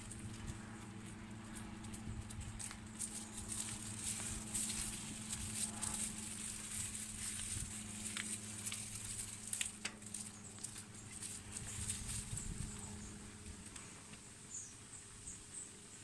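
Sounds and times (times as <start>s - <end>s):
wheels pattering over planks: 0.0s - 12.9s
wheelchair motor hum: 0.0s - 16.0s.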